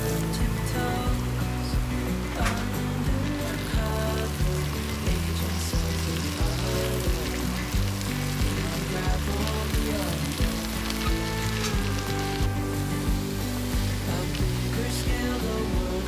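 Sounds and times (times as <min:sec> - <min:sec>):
background music with steady beat: 0:00.0 - 0:16.0
food sizzling in a pan: 0:02.1 - 0:16.0.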